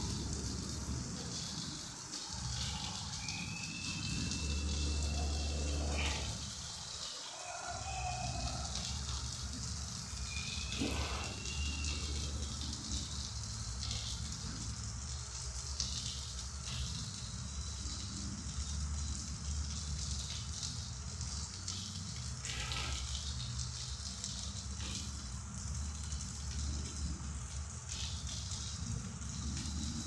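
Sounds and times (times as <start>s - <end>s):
rain hiss: 0.0s - 30.0s.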